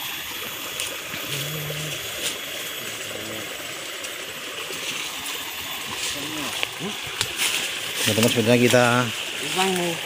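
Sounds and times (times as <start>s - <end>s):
stream of flowing water: 0.0s - 10.0s.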